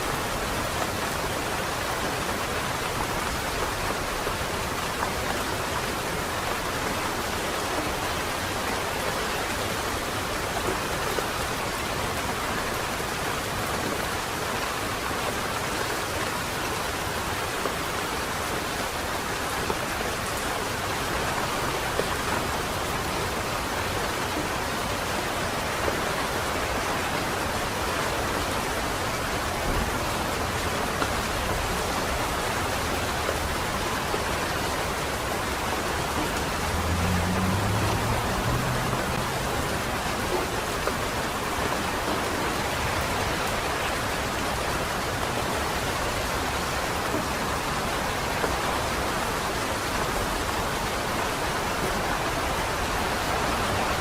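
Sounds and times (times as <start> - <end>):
light rain on leaves: 0.0 - 54.0.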